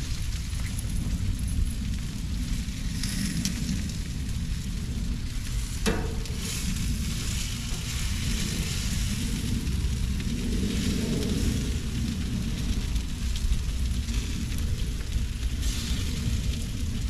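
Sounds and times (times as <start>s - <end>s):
chicken sizzling on a grill: 0.0s - 17.0s
low rumble: 0.0s - 17.0s.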